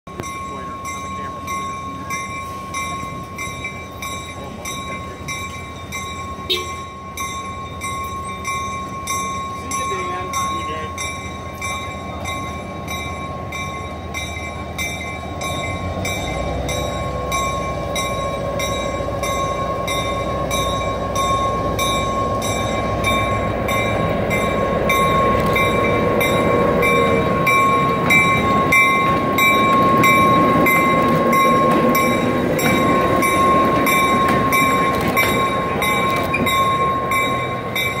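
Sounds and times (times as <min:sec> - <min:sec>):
diesel locomotive engine rumble: 0:00.0 - 0:38.0
locomotive bell ringing: 0:00.1 - 0:38.0.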